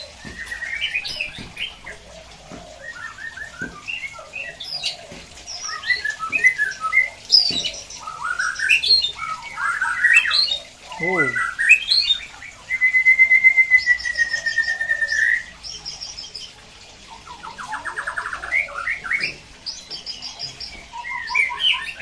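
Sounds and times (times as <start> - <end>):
birds singing whistles and trills: 0.0 - 22.0.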